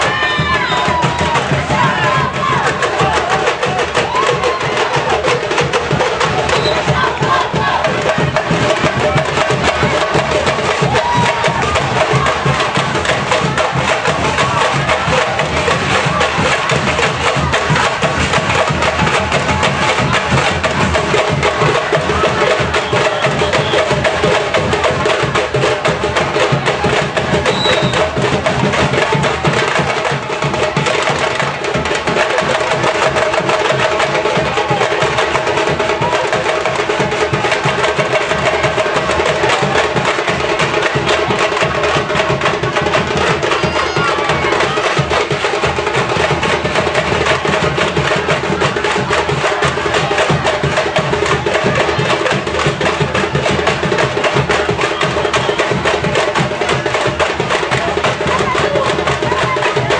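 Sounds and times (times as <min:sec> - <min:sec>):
fast drumming and percussion: 0:00.0 - 0:59.9.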